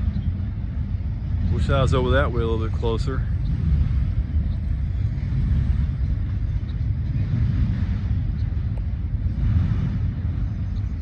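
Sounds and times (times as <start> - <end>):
distant train rumbling past: 0.0 - 11.0.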